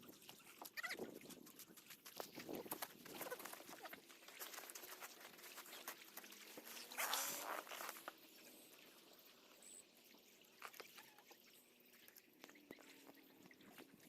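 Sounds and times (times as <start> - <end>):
water dripping and trickling: 0.0 - 14.0.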